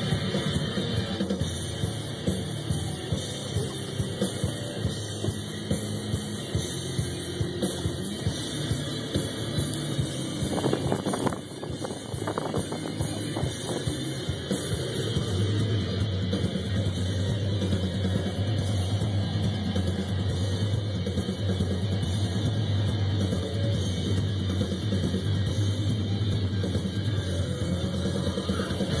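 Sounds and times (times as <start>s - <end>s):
car engine and tyres drone: 0.0s - 29.0s
rock music with drums: 0.0s - 29.0s.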